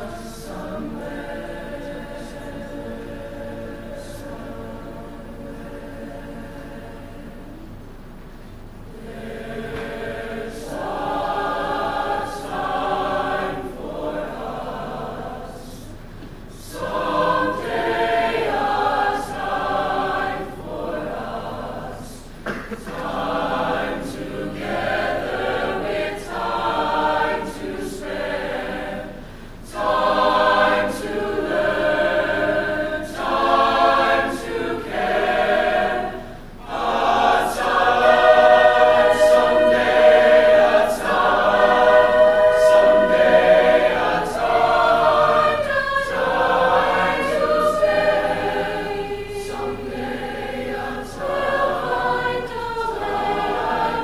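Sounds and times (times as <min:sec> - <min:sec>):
mixed-voice choir singing: 0:00.0 - 0:08.0, 0:08.8 - 0:54.0.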